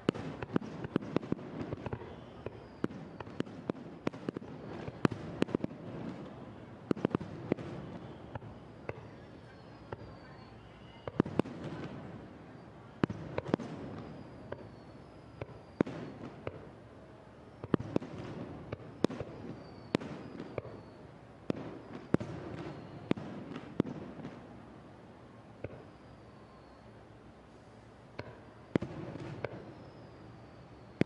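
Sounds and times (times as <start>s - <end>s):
fireworks bursting with sharp bangs: 0.0s - 31.0s.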